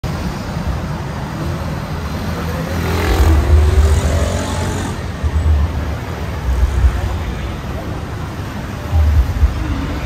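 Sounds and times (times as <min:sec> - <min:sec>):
cars and motorcycles passing: 0:00.0 - 0:10.0.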